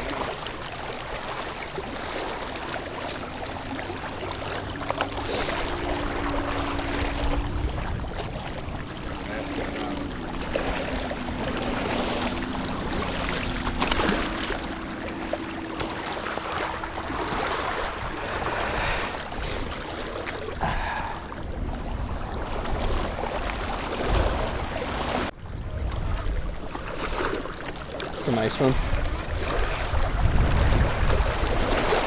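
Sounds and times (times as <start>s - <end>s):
wind buffeting microphone: 3.2s - 26.9s, 28.4s - 32.0s.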